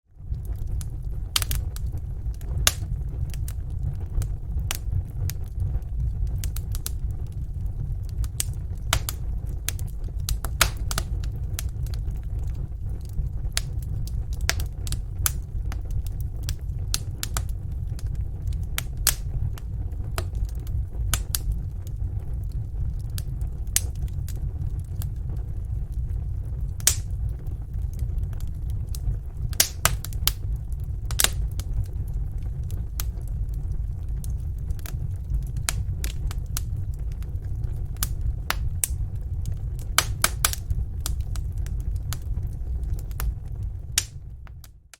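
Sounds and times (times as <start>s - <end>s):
wood fire crackling: 0.1s - 44.9s.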